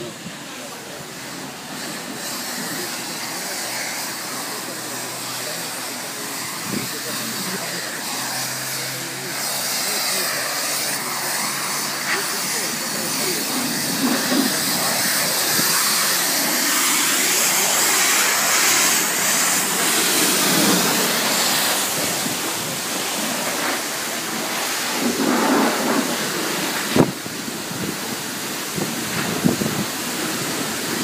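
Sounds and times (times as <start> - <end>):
pressure washer spraying: 0.0 - 31.0.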